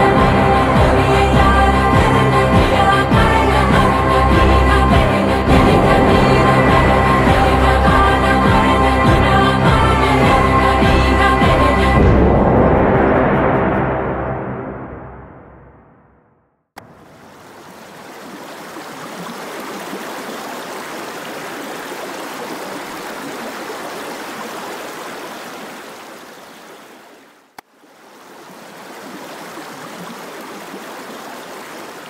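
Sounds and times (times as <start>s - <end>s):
rushing water: 0.0s - 12.2s, 16.8s - 32.0s.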